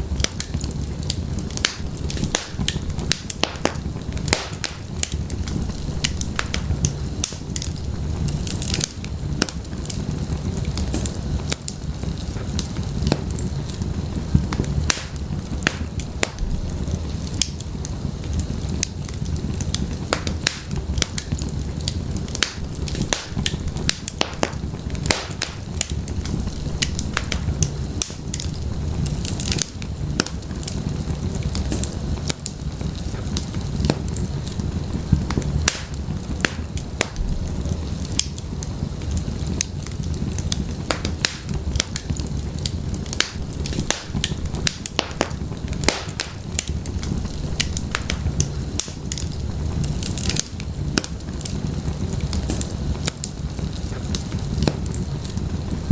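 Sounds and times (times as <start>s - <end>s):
firewood crackling and popping: 0.0s - 55.9s
low rush of flames: 0.0s - 55.9s.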